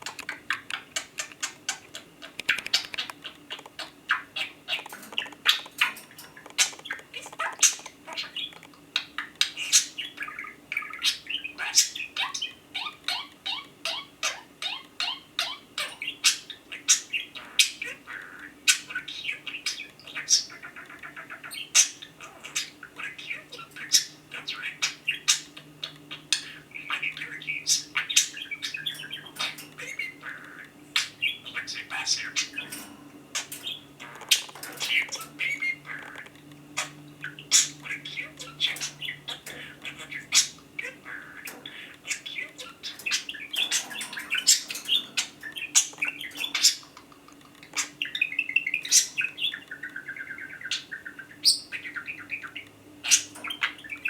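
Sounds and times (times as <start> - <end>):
budgerigars chattering: 0.0 - 54.0
rapid ticking bird notes: 0.0 - 54.0.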